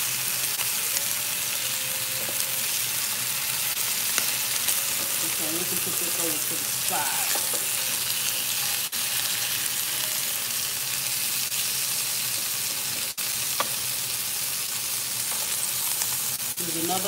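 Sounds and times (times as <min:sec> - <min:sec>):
ribs sizzling in hot pan: 0:00.0 - 0:17.0.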